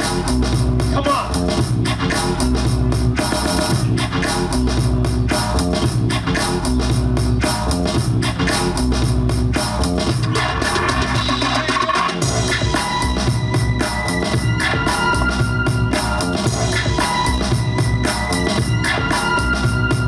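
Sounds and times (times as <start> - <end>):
heavy bass: 0.0 - 20.0
loud dance music: 0.0 - 20.0
steady drum beat: 0.0 - 20.0.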